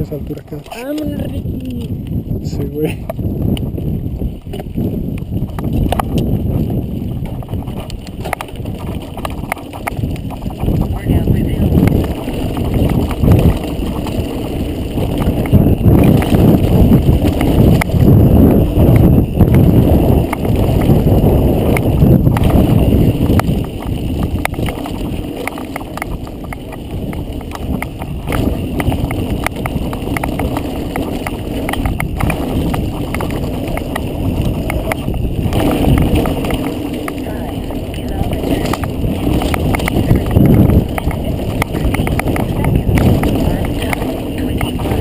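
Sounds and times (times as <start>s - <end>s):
bike clattering and rattling: 0.0s - 45.0s
mountain bike rumble on rocky trail: 0.0s - 45.0s.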